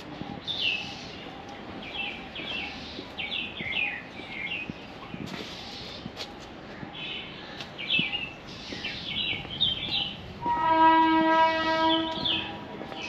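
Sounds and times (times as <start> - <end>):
birds chirping: 0.0 - 13.0
faint outdoor background: 0.0 - 13.0.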